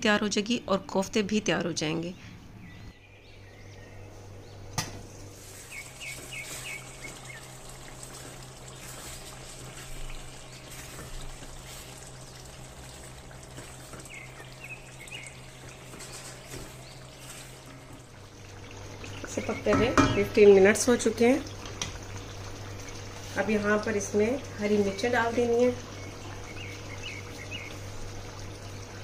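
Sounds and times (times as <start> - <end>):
gravy simmering and bubbling: 5.1 - 29.0.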